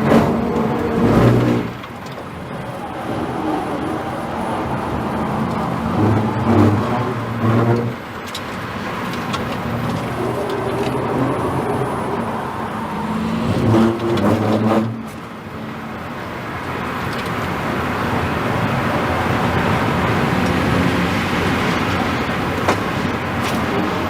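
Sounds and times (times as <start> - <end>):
tyre and wind noise: 0.0 - 24.0.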